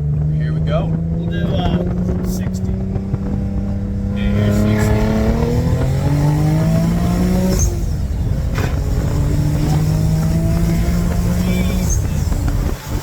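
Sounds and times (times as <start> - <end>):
car engine revving under full throttle: 0.0 - 13.0.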